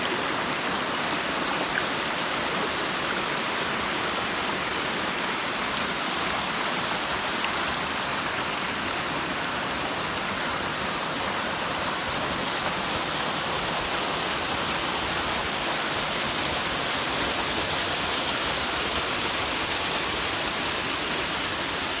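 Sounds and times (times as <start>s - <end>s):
rushing stream water: 0.0s - 22.0s.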